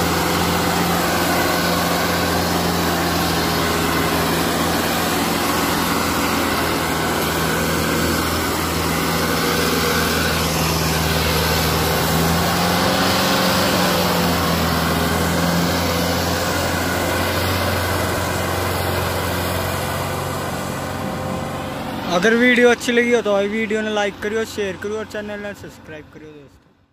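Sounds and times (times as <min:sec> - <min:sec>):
tractor diesel engine under load: 0:00.0 - 0:26.9.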